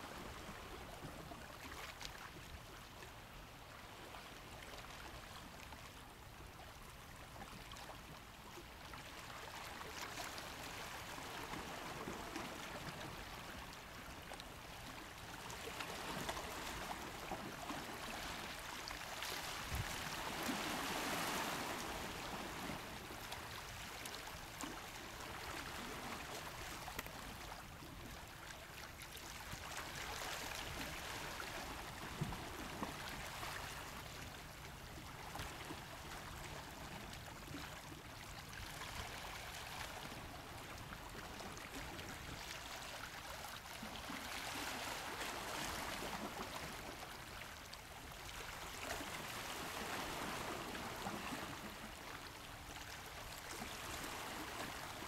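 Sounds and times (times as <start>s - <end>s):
small waves lapping against rocks: 0.0s - 55.0s.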